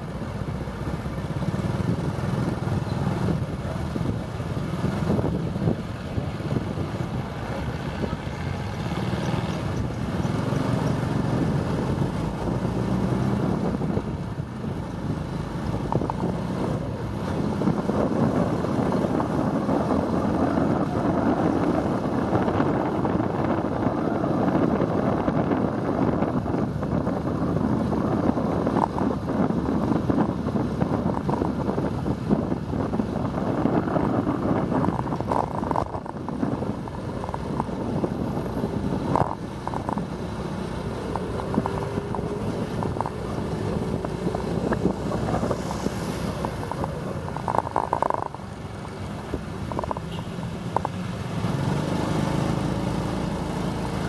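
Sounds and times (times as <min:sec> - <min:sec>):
street traffic: 0:00.0 - 0:54.0
wind rushing over microphone: 0:00.0 - 0:54.0.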